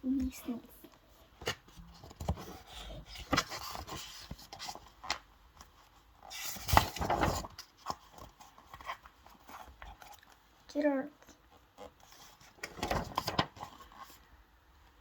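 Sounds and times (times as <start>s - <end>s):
rubbing and scraping handling noise: 0.1s - 14.3s.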